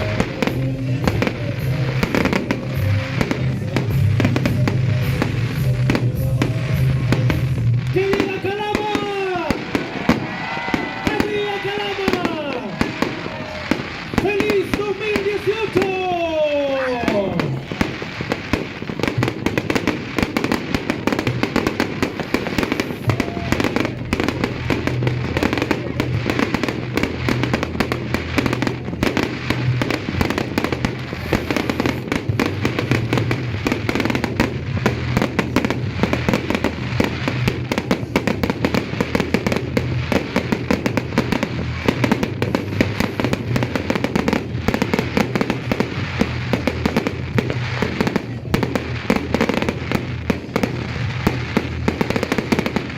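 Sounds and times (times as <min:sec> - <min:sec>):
fireworks and firecrackers banging: 0:00.0 - 0:52.9
music playing: 0:00.0 - 0:52.9.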